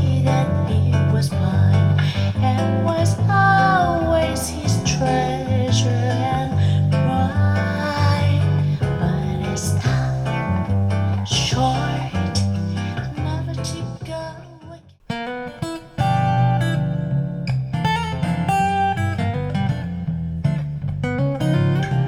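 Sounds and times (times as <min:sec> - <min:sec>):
guitar music over speakers: 0:00.0 - 0:14.0, 0:15.1 - 0:22.0.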